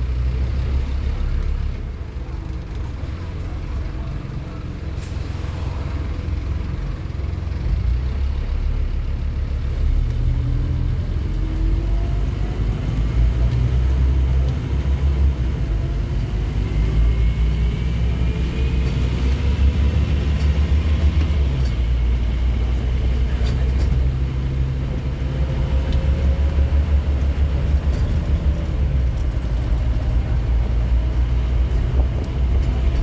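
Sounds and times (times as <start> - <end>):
bus diesel engine rumble: 0.0 - 33.0.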